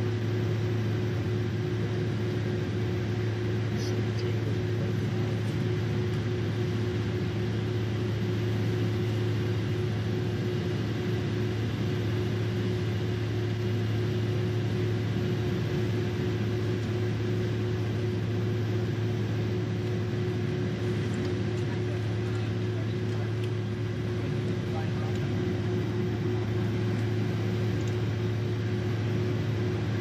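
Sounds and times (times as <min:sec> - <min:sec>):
aircraft cabin engine drone: 0:00.0 - 0:30.0.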